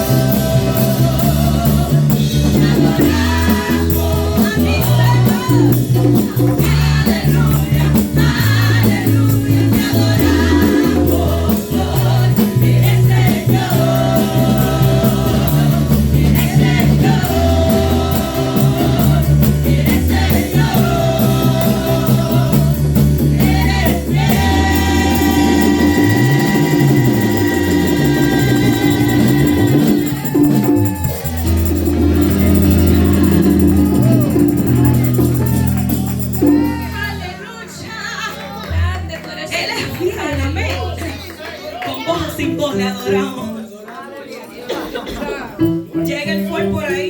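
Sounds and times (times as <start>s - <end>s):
people singing: 0.0s - 38.5s
gospel band playing: 0.0s - 44.0s, 44.7s - 47.0s.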